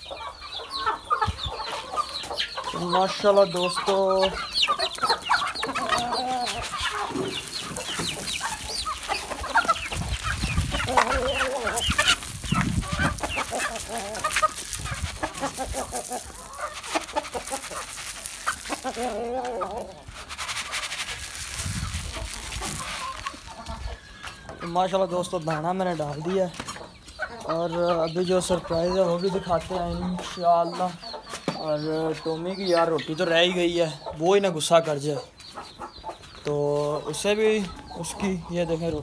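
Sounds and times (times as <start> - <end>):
chickens clucking and calling: 0.0 - 39.0.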